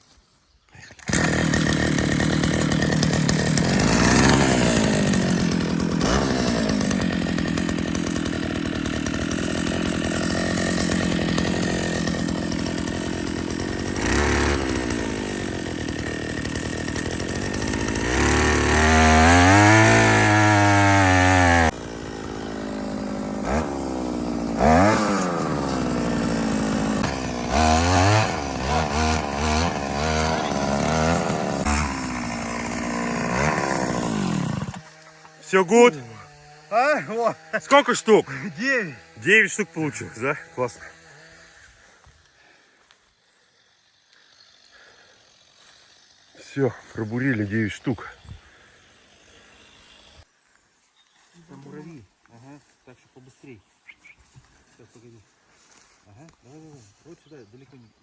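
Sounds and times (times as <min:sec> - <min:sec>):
earth auger engine boring: 0:00.9 - 0:48.8.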